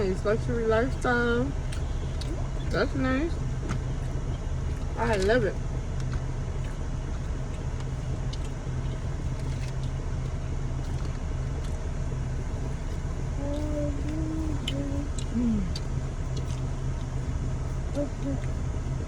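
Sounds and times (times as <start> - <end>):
car idling hum: 0.0 - 19.0.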